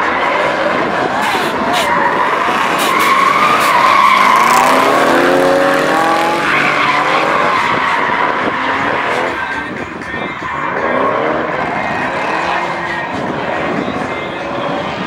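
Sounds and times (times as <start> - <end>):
tyres squealing: 0.0 - 14.7
car engines revving hard: 0.0 - 15.0.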